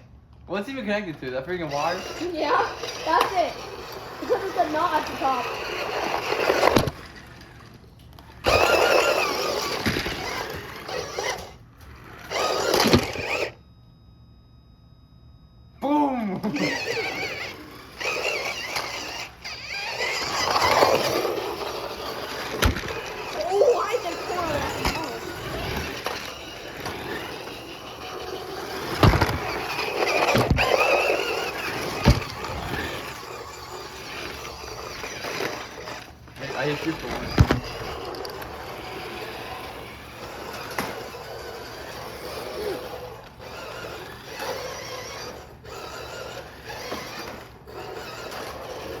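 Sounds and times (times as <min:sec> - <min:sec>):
rc car motors whirring: 0:00.0 - 0:13.7, 0:15.6 - 0:49.0.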